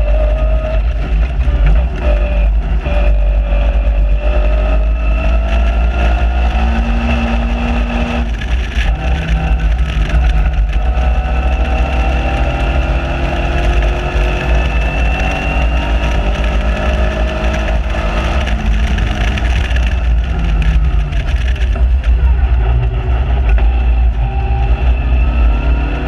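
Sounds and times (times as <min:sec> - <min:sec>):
car engine at speed: 0:00.0 - 0:26.0.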